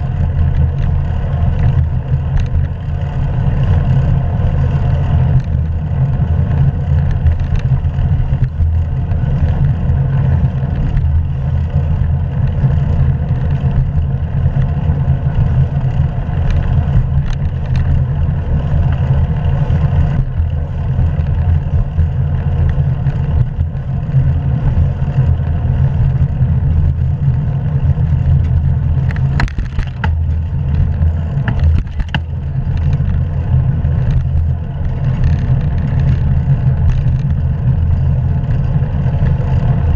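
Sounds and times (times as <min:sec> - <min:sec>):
bicycle road noise: 0:00.0 - 0:39.9.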